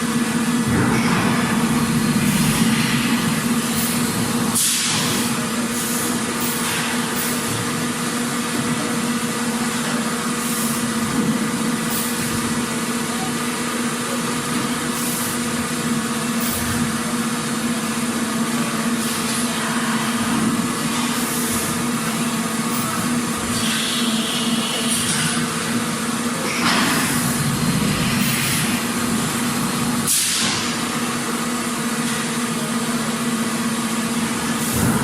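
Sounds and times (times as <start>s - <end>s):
factory machinery hum: 0.0s - 35.0s.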